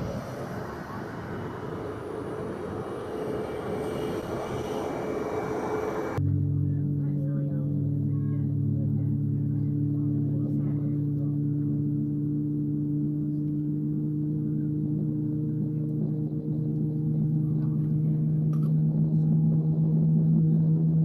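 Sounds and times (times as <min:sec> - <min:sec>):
aircraft engine drone: 0:00.0 - 0:21.0.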